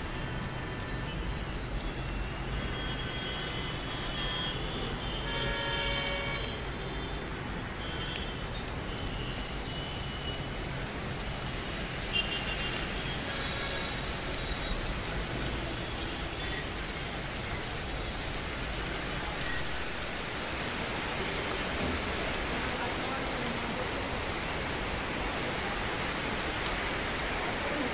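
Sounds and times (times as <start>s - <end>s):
heavy rain: 0.0s - 27.9s
road traffic hiss: 0.0s - 27.9s.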